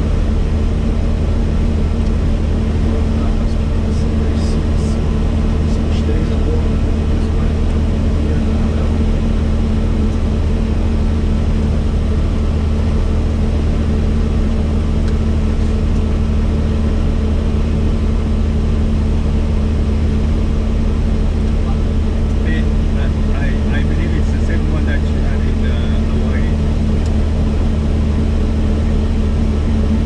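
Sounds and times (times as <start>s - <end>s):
helicopter rotor and engine drone: 0.0s - 30.0s.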